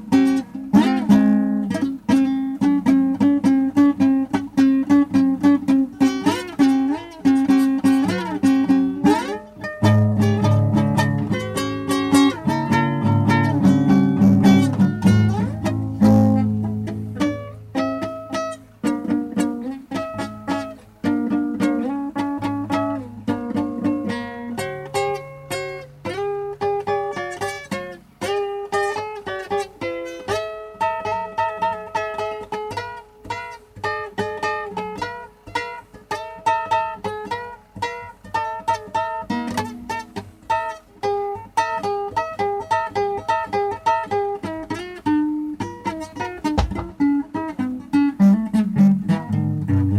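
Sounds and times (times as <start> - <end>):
blues guitar playing: 0.0 - 49.9.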